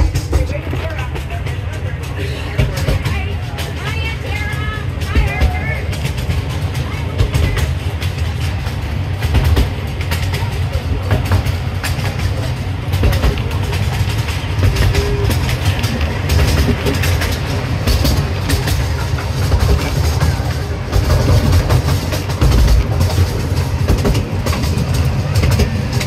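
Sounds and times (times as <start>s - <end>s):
railway car rumbling on track: 0.0s - 26.0s
wheels clicking and rattling: 0.0s - 26.0s.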